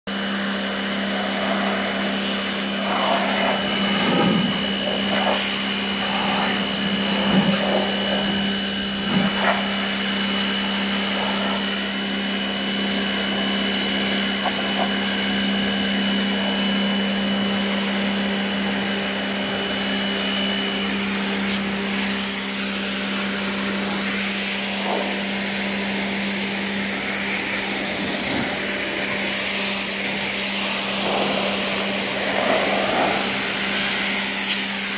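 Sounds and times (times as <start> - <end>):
pressure washer hum: 0.1 - 34.9
water jet hissing on paving: 0.2 - 15.4, 20.9 - 34.9.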